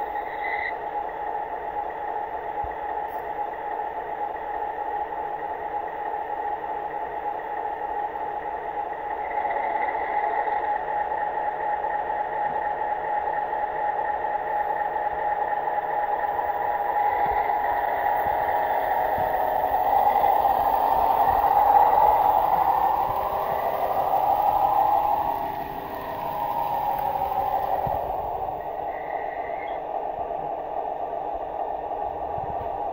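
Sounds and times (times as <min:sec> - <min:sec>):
model train whirring and rattling: 0:00.0 - 0:30.7.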